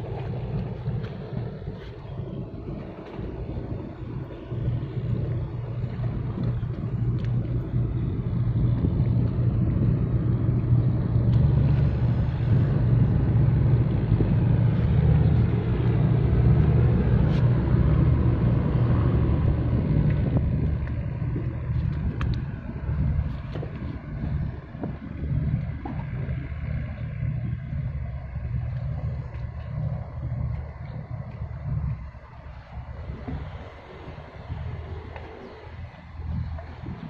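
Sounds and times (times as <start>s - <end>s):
ship engine rumble: 0.0s - 37.0s
wind on microphone: 0.0s - 37.0s.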